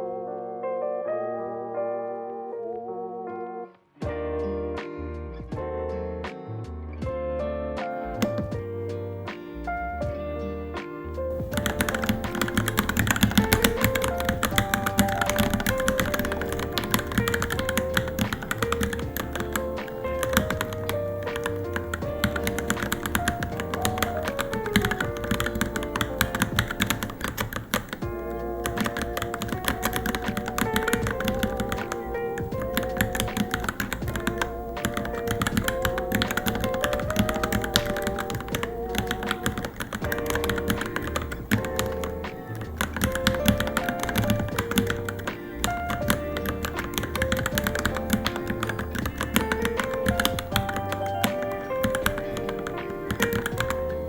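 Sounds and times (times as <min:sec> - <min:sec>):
melodic background music: 0:00.0 - 0:54.0
mechanical keyboard typing: 0:08.1 - 0:08.7, 0:11.3 - 0:54.0.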